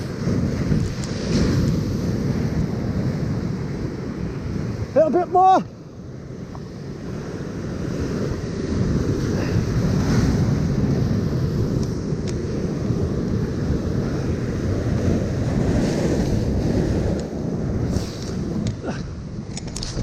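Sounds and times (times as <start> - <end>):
waves breaking on rocks: 0.0 - 5.7, 6.4 - 20.0
wind buffeting microphone: 0.0 - 20.0.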